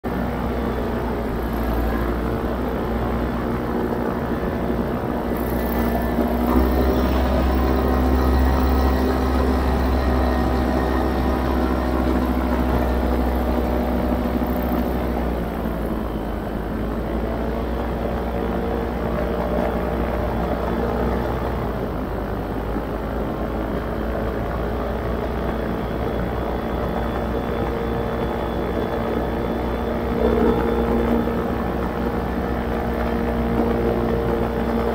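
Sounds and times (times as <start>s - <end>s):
paramotor engine and propeller: 0.0s - 34.9s.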